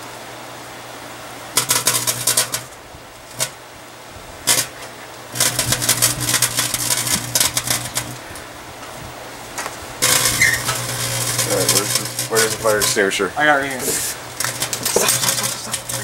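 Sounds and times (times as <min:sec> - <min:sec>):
microwave oven hum: 0:00.9 - 0:16.0
crackling and snapping sparks: 0:01.5 - 0:03.6, 0:04.4 - 0:16.0.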